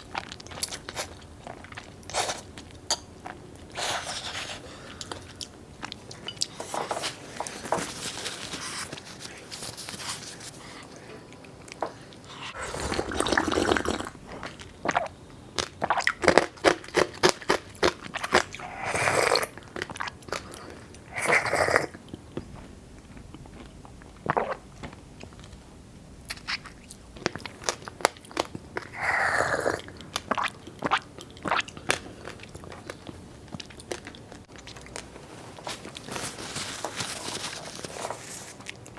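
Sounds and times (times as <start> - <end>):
person chewing crunchy food: 0.0 - 25.6, 26.3 - 38.9.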